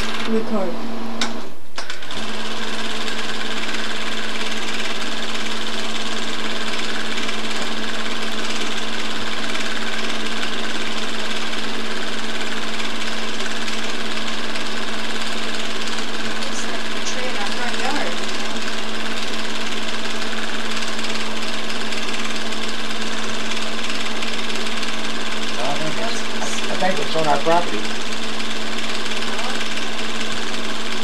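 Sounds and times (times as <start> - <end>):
film projector whirring: 0.0 - 31.0.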